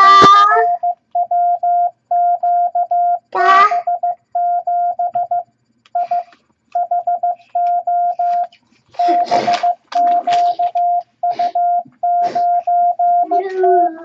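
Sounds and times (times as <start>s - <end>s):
morse code beeps: 0.0s - 14.0s.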